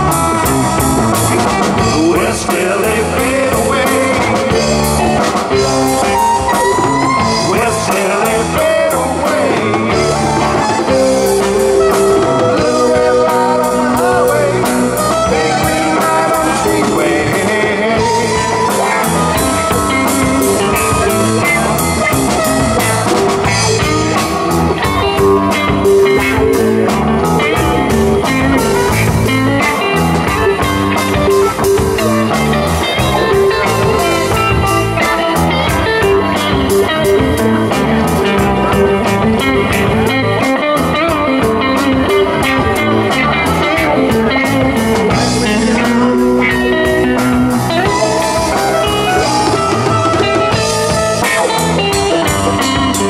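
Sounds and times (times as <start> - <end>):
blues-rock band playing: 0.0 - 53.0.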